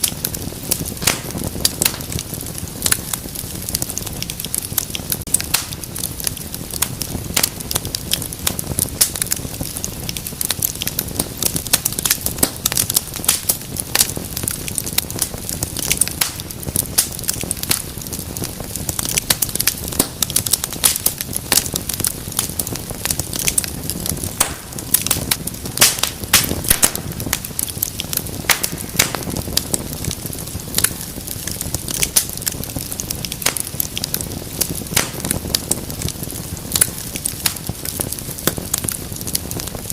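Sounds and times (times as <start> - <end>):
rushing of flames: 0.0 - 39.9
wood fire crackling: 0.0 - 39.9.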